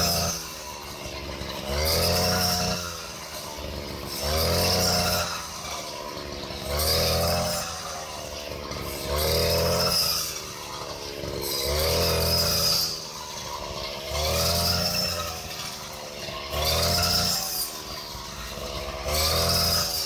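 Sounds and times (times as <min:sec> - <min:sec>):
brush cutter engine revving: 0:00.0 - 0:20.0.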